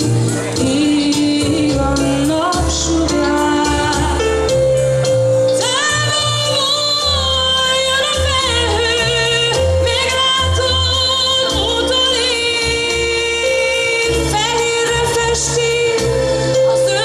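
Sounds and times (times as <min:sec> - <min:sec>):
instrumental accompaniment: 0:00.0 - 0:17.0
woman singing into a microphone: 0:00.0 - 0:17.0.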